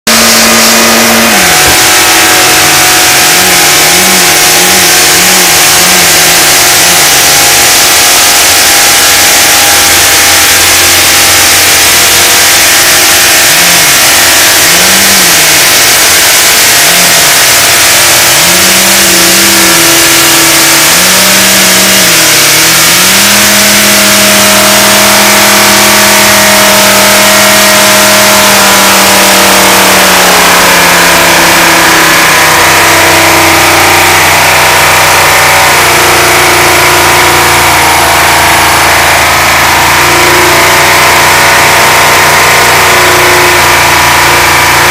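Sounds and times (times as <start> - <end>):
van engine revving: 0.0 - 44.9.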